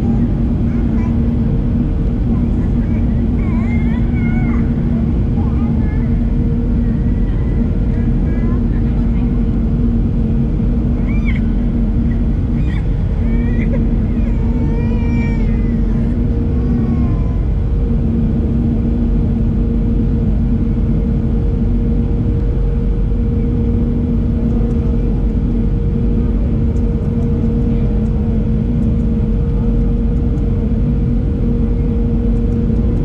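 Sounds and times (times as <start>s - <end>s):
airplane cabin engine drone: 0.0s - 33.0s
low pulsing engine tone: 0.0s - 33.0s.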